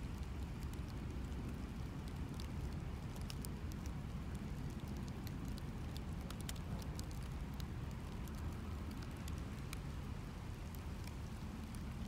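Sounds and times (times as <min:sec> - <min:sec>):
sharp crackles and ticks: 0:00.0 - 0:12.0.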